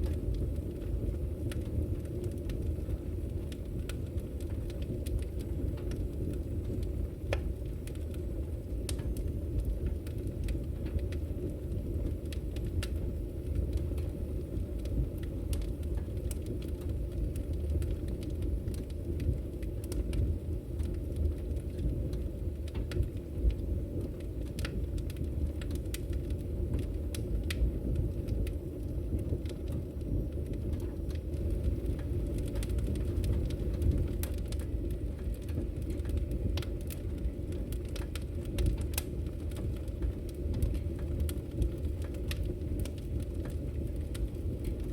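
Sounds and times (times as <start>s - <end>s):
fire pops and crackles: 0.0s - 44.9s
wood fire burning rumble: 0.0s - 44.9s.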